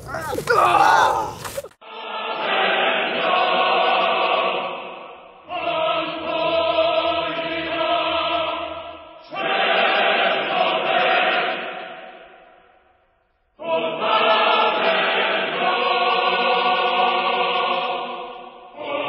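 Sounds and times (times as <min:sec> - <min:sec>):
choir chanting: 0:00.0 - 0:12.9, 0:13.6 - 0:19.0.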